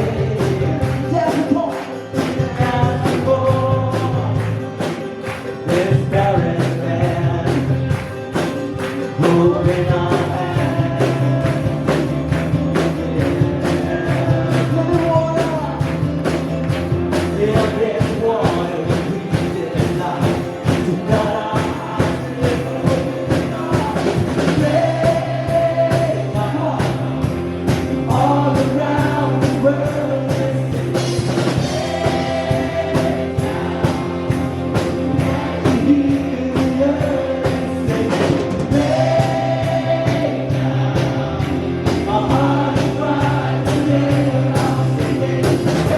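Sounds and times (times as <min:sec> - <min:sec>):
live rock band playing: 0:00.0 - 0:45.9
person singing: 0:00.0 - 0:45.9
steady drum beat: 0:00.0 - 0:45.9.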